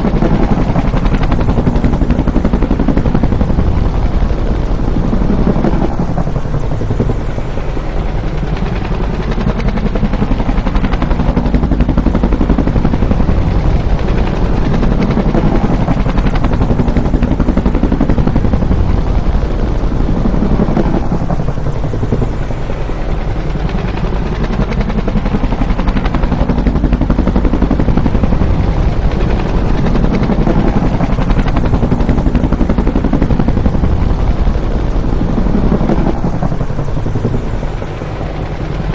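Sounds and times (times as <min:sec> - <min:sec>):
helicopter rotor beating: 0:00.0 - 0:38.9.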